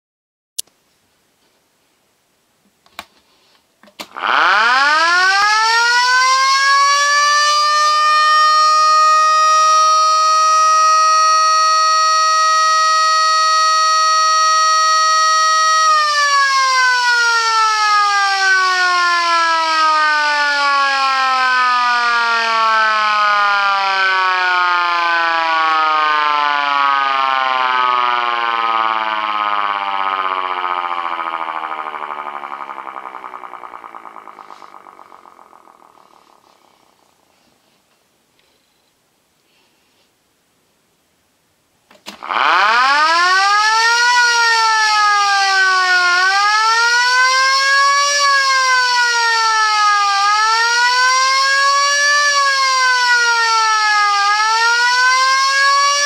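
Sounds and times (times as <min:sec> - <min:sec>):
electric motor siren wailing: 0:04.1 - 0:37.0, 0:42.2 - 0:56.0.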